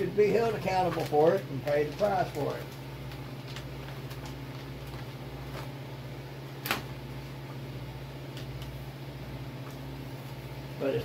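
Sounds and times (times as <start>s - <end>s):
low electric hum: 0.0s - 11.0s.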